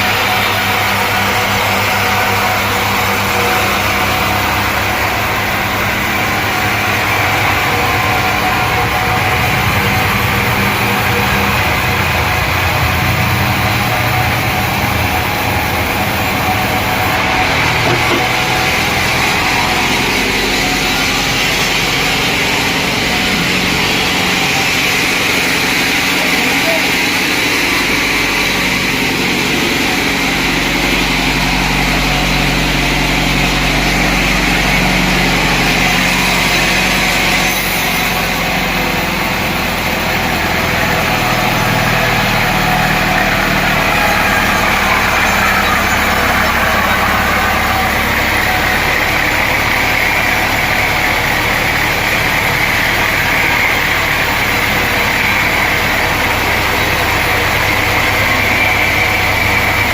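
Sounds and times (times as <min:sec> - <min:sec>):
motor hum: 0:00.0 - 0:59.9
saw running: 0:00.0 - 0:59.9.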